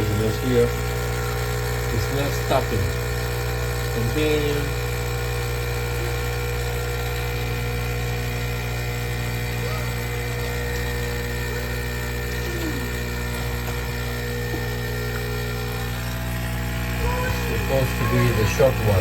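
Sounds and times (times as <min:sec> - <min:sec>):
espresso machine pump buzzing: 0:00.0 - 0:19.0.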